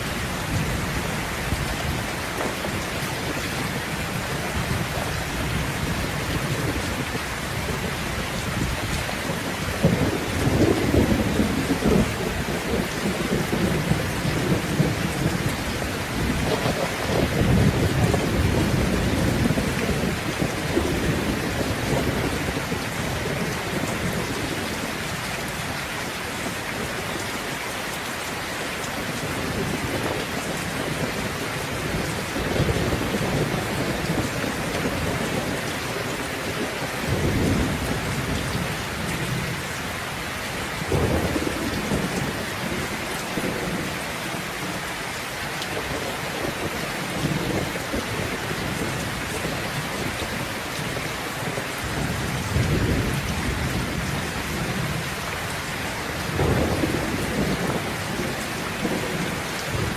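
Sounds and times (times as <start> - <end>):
low rolling thunder: 0.0 - 25.4, 28.9 - 44.9, 45.7 - 59.9
heavy rain falling: 0.0 - 59.9.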